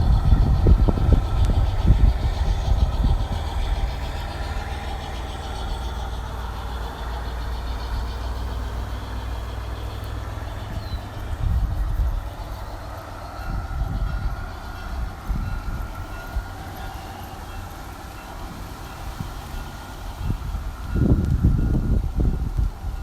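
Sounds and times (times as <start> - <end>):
model train engine rumble: 0.0 - 23.0.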